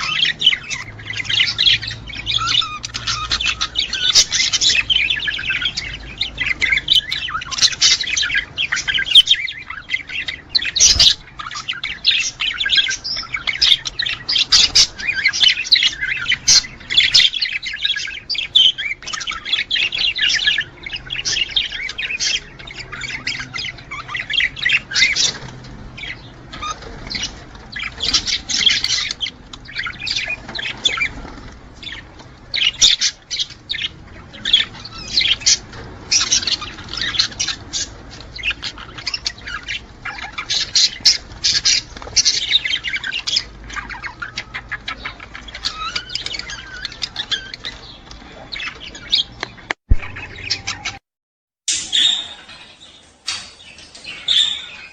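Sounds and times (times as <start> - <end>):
budgerigars chattering: 0.0 - 51.0, 51.7 - 54.9.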